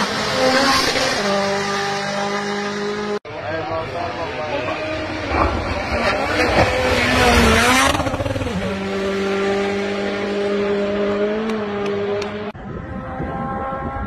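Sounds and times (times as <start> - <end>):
rally car engine passing: 0.0 - 14.0.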